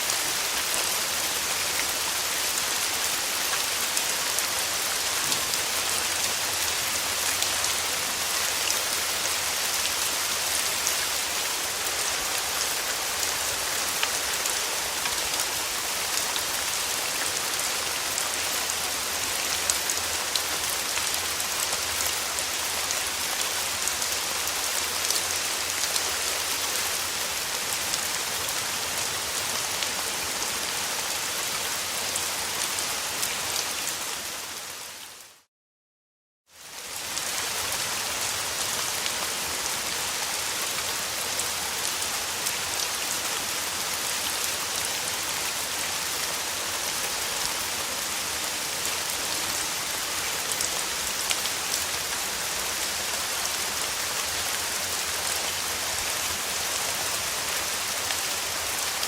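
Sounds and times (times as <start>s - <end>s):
rain falling on a surface: 0.0s - 35.5s, 36.5s - 59.0s.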